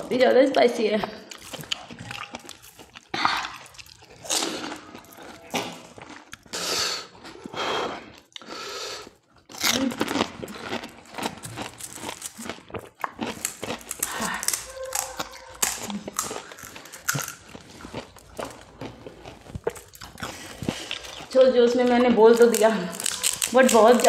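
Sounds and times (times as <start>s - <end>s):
crisp food crunching: 1.2s - 6.6s, 9.1s - 24.0s.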